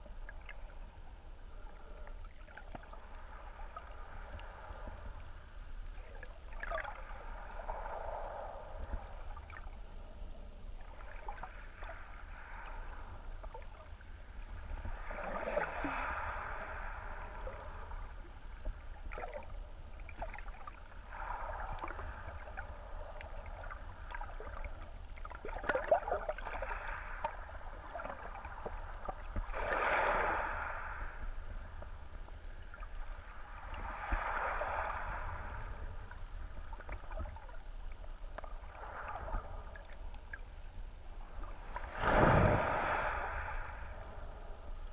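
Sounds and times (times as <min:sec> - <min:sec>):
muffled underwater rumble: 0:00.0 - 0:44.9.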